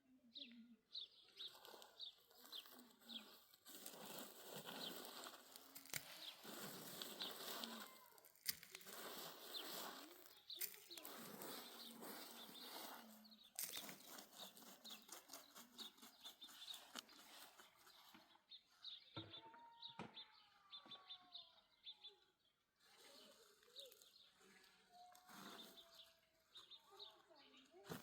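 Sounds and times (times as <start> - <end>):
small birds chirping: 0.1 - 28.0.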